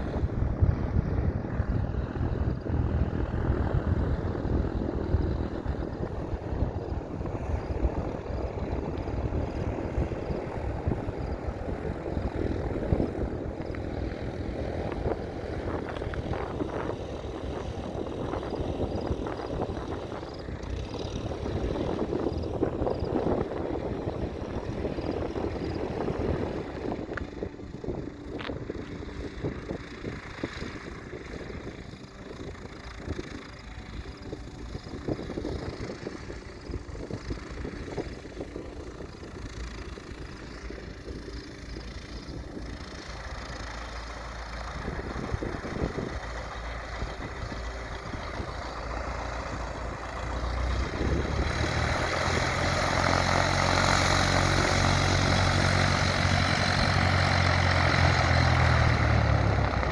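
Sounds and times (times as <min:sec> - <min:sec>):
propeller aircraft engine droning: 0:00.0 - 0:59.9
wind buffeting microphone: 0:00.0 - 0:59.9.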